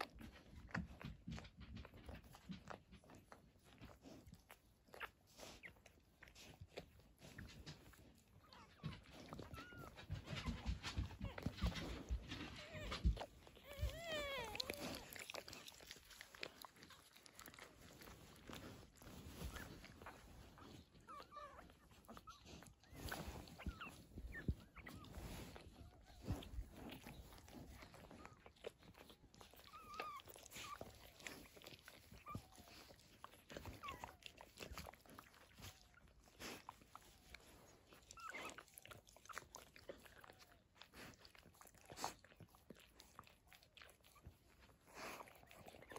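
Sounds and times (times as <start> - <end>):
puppies suckling: 0.0 - 45.9
puppies squeaking and whimpering: 2.0 - 45.9.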